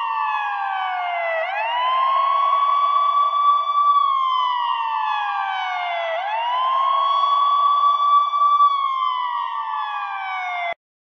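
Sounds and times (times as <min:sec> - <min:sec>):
ambulance siren wailing: 0:00.0 - 0:10.8.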